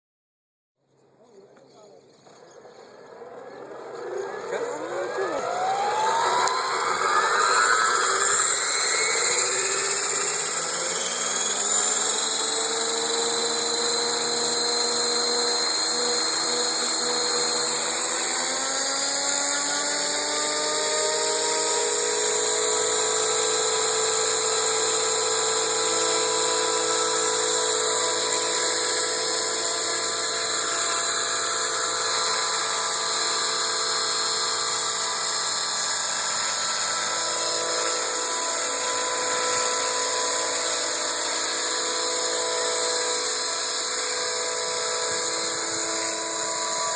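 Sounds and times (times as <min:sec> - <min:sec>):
model helicopter rotors whining: 0:01.2 - 0:46.9.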